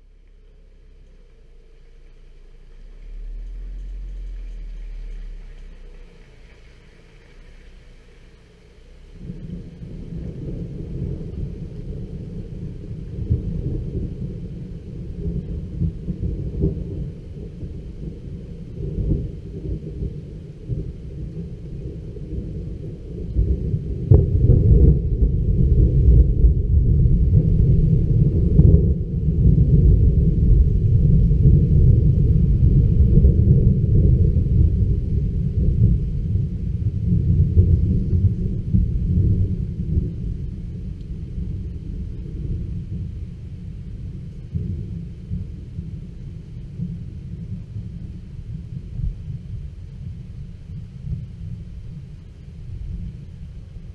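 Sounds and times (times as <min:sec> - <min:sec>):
thunder rumbling: 0:00.0 - 0:53.9.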